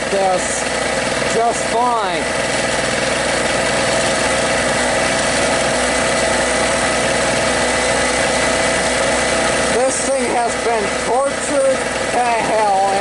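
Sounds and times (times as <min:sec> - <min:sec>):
portable generator running: 0:00.0 - 0:13.0.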